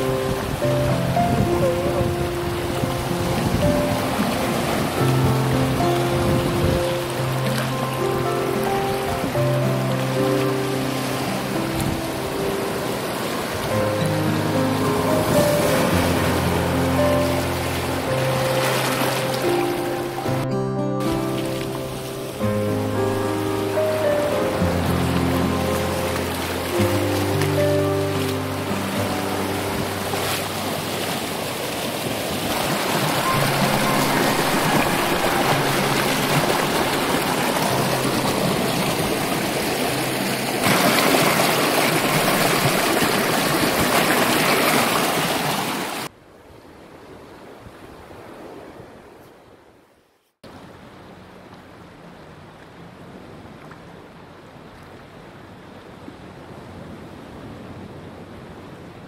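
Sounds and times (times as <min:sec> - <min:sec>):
waves breaking on a beach: 0:00.0 - 0:20.4, 0:21.0 - 0:59.0
quiet wash of water: 0:00.0 - 0:59.0.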